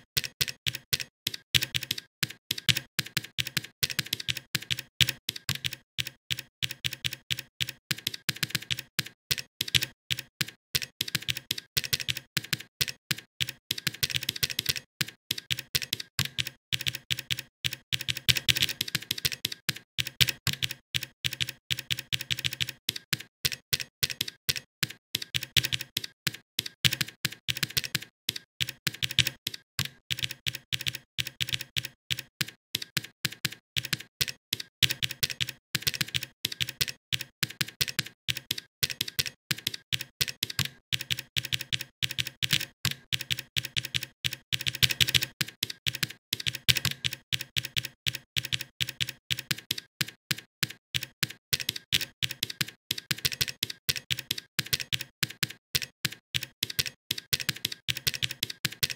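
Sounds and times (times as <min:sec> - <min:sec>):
typing on computer keyboard: 0:00.0 - 0:58.9.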